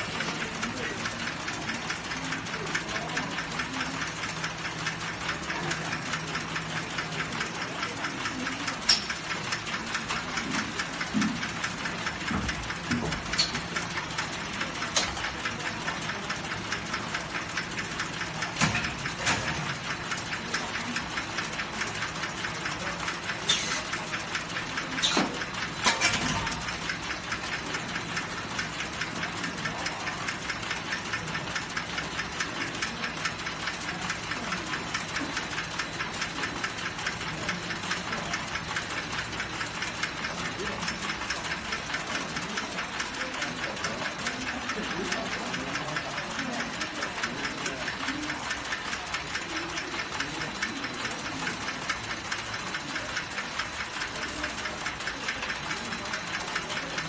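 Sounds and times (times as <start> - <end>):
welding machine chatter: 0.0 - 57.0.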